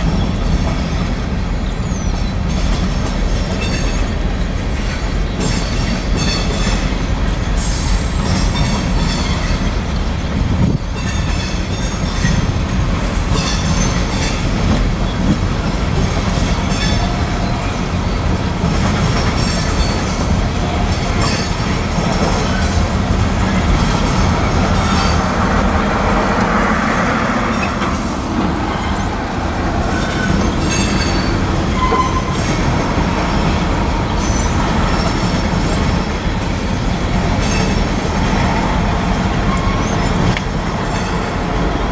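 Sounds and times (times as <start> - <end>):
freight train rumbling past: 0.0 - 41.9.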